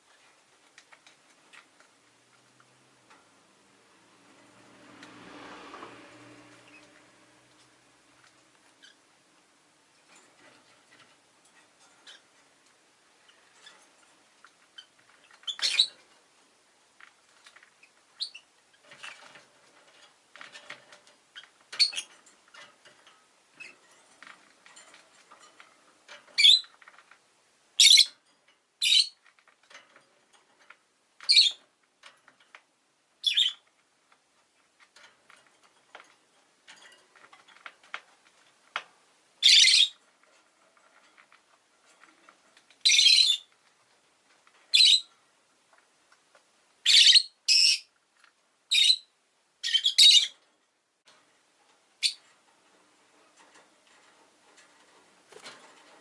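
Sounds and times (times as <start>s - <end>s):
soft clicks and rustling: 0.0s - 46.8s, 47.9s - 48.6s, 50.3s - 56.0s.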